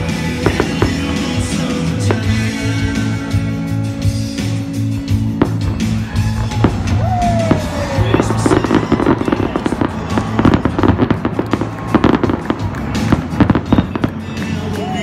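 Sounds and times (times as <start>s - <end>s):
firework fountains crackling: 0.0s - 2.6s, 5.1s - 15.0s
music playing: 0.0s - 15.0s.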